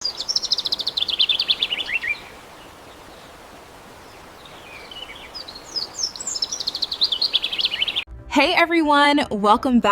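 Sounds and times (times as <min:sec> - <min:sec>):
bird chirping: 0:00.0 - 0:08.0
faint steady hiss: 0:00.0 - 0:08.0.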